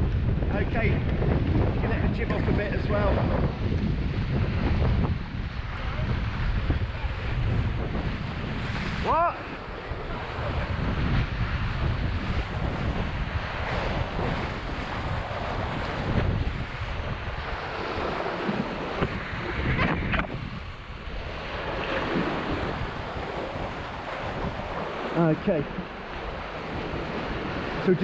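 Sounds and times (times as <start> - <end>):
water splashing along hulls: 0.0 - 28.0
wind buffeting microphone: 0.0 - 28.0.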